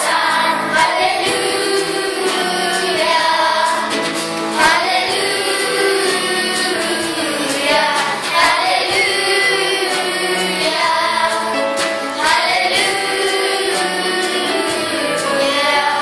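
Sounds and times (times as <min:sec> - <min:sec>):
children's choir singing: 0:00.0 - 0:16.0.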